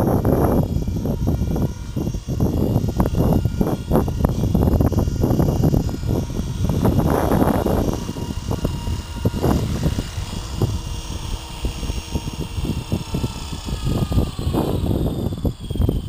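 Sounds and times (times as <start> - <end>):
rc helicopter rotor spooling down: 0.0 - 16.0
wind buffeting microphone: 0.0 - 16.0.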